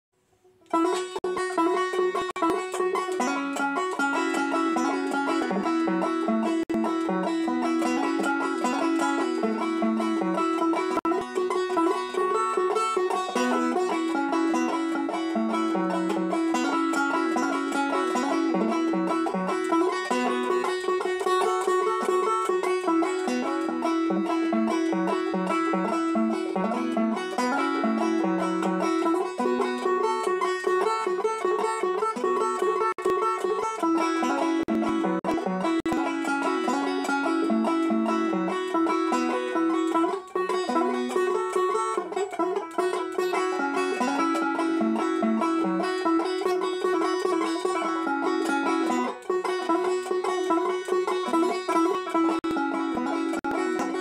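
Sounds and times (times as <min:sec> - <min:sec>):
banjo picking: 0:00.2 - 0:54.0.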